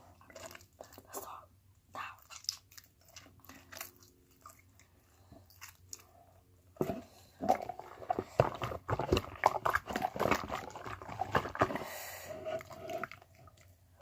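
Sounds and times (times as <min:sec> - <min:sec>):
slime squelching: 0:02.0 - 0:14.0.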